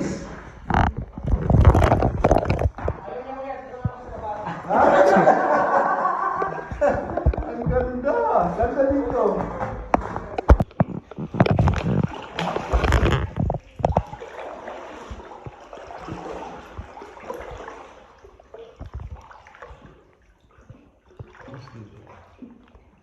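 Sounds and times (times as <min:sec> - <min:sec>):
paddle knocks and bumps: 0:00.0 - 0:03.1, 0:06.3 - 0:22.5
paddles splashing in water: 0:00.0 - 0:03.2, 0:04.0 - 0:23.0.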